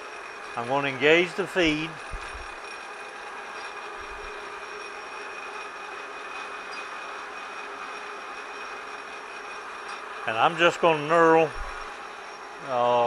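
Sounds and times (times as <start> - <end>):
knurling tool rolling: 0.0 - 12.6
metal lathe running: 0.0 - 13.0
steady high whine: 0.0 - 13.0.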